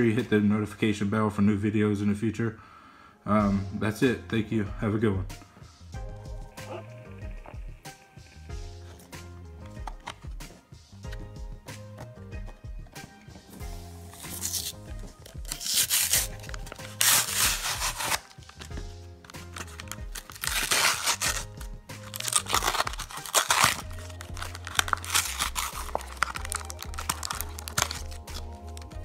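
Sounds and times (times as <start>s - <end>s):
background music with bass line: 3.4s - 29.0s.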